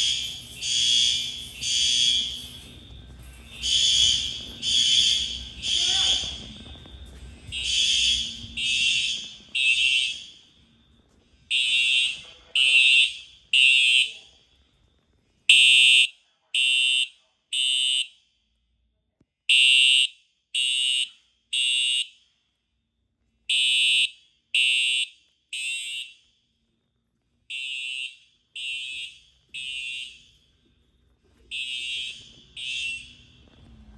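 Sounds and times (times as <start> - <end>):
fire alarm horn blasts: 0.0 - 14.4, 15.5 - 18.4, 19.5 - 22.4, 23.5 - 26.4, 27.5 - 30.7, 31.3 - 33.9.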